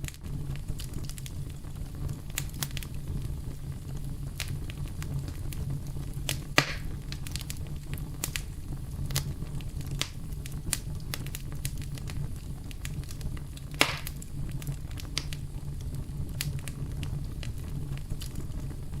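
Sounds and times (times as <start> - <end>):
campfire crackling: 0.0 - 19.0
fire pops: 0.0 - 19.0.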